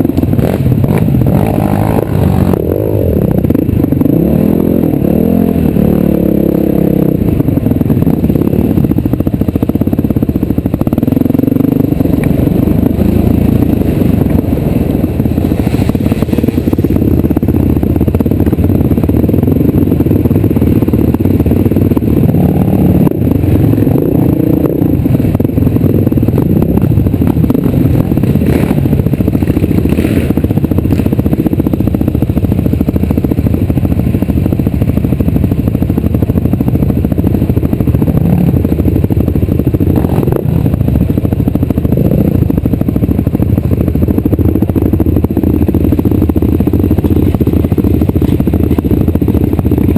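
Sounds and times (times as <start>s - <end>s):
off-road vehicle engine: 0.0s - 49.9s
clatter and scraping over ground: 7.2s - 49.9s.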